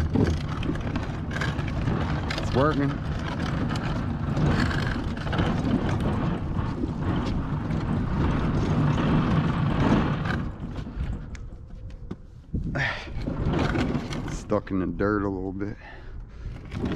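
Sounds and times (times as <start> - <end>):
refrigerator scraping over ground: 0.0 - 11.7, 12.5 - 15.8, 16.4 - 16.9.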